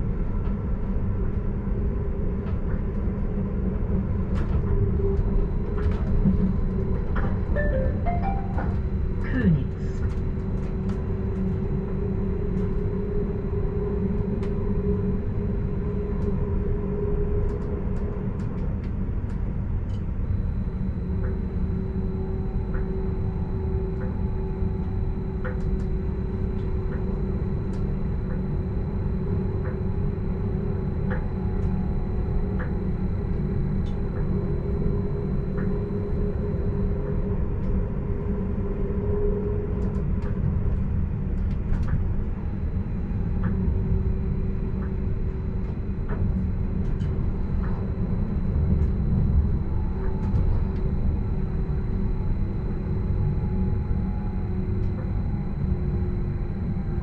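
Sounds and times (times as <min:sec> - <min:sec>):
electric drive whine: 0:03.9 - 0:57.0.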